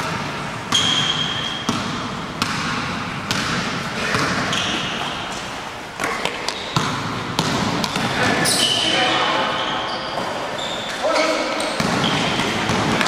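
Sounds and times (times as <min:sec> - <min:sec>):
basketballs bouncing on court: 0:00.0 - 0:10.8, 0:11.4 - 0:13.0.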